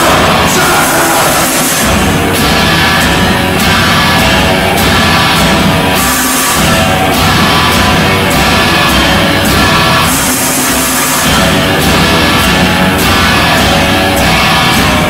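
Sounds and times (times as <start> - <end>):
electric guitars playing heavy riff: 0.0 - 15.0
high crashes: 0.0 - 15.0.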